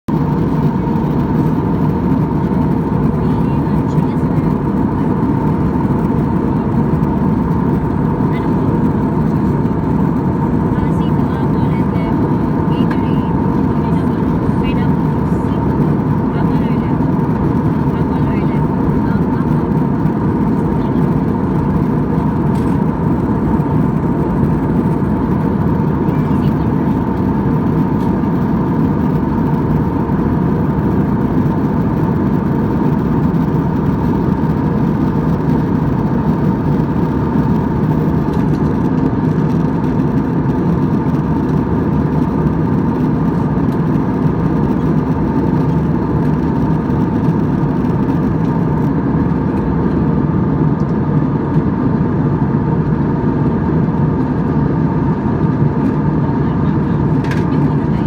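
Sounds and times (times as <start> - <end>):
jet engines droning in cabin: 0.1 - 58.0.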